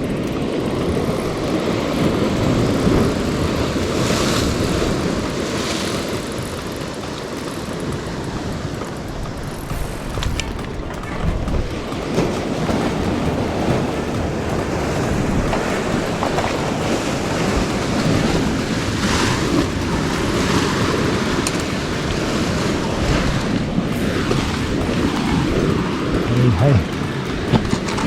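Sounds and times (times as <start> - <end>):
surf washing against rocks: 0.0 - 28.0
wind rumbling on microphone: 0.0 - 28.0.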